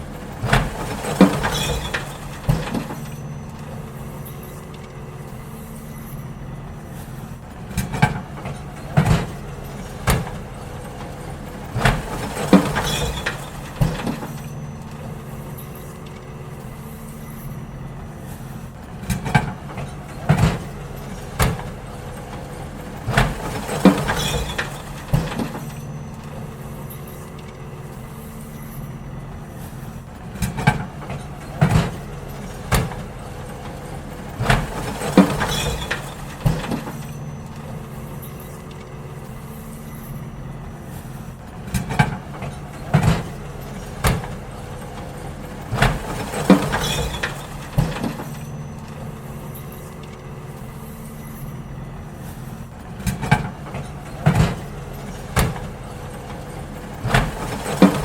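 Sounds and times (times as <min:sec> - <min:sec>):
bins banging and clanking: 0:00.0 - 0:58.0
garbage truck engine running: 0:00.0 - 0:58.0.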